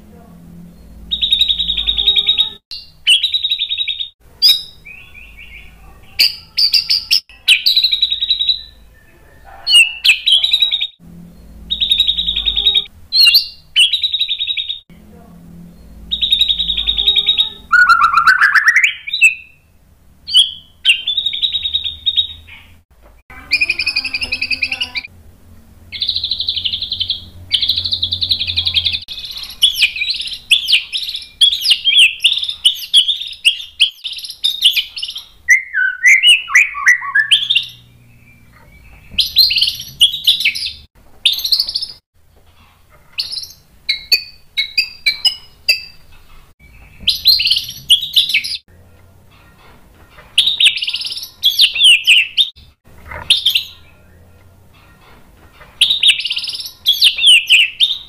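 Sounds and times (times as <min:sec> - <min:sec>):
bird singing varied song: 0:00.4 - 0:25.1, 0:25.8 - 0:42.0, 0:43.2 - 0:58.0.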